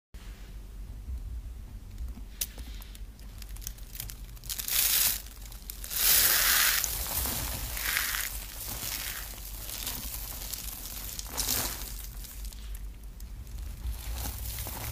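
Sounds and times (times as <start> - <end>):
soap crackling and crunching: 2.4 - 14.9.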